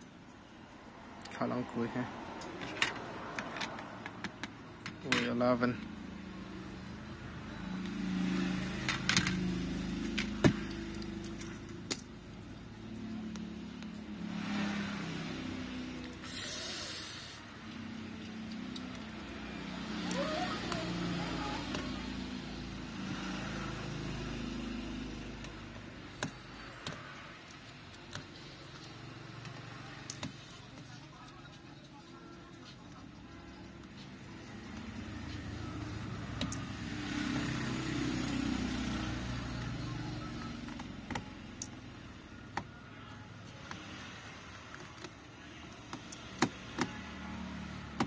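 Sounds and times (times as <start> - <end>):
vehicle engines humming: 0.0 - 48.0.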